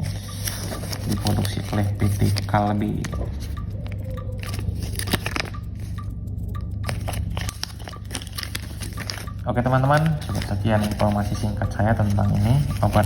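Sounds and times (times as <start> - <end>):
packaging crackles and clicks: 0.0 - 13.0
steady low hum: 0.0 - 13.0.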